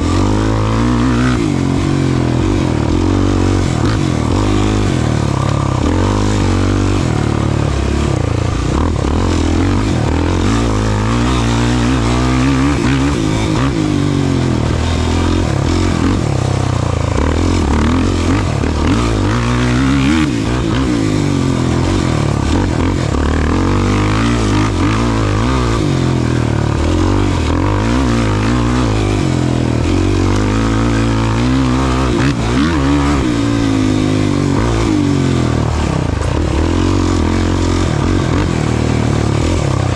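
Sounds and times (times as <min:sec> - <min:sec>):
race vehicle engine revving: 0:00.0 - 0:39.9
rough terrain noise: 0:00.0 - 0:39.9.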